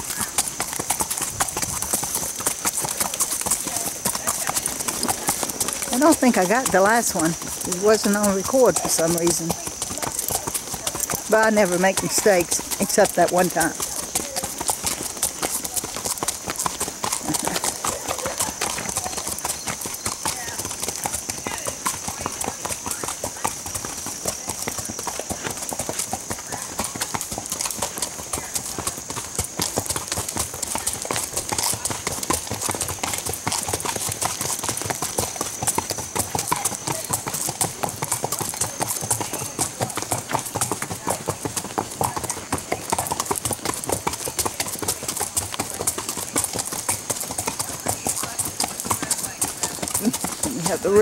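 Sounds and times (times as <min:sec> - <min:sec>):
hooves clopping on gravel: 0:00.0 - 0:51.0.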